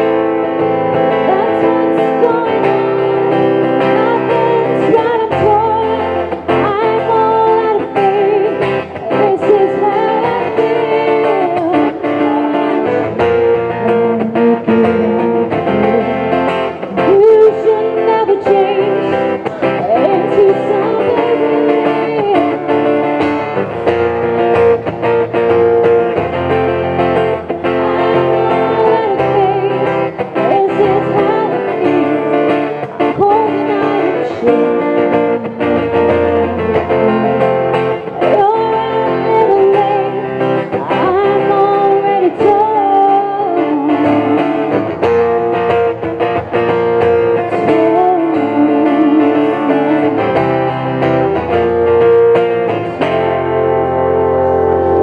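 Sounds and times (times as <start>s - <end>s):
woman singing into microphone: 0.0s - 24.0s, 27.2s - 45.7s, 47.4s - 52.1s
acoustic guitar: 0.0s - 55.0s.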